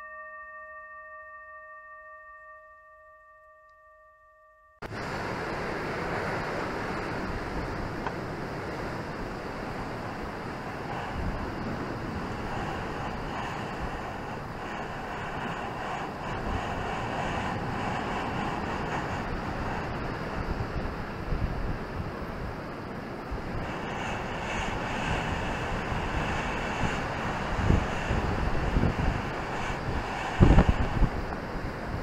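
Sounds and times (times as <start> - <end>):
surf breaking on rocks: 4.9 - 32.0.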